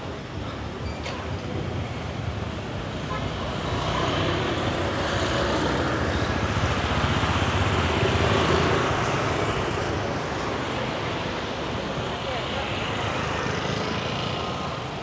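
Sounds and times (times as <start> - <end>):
scooters and cars passing: 0.0 - 15.0.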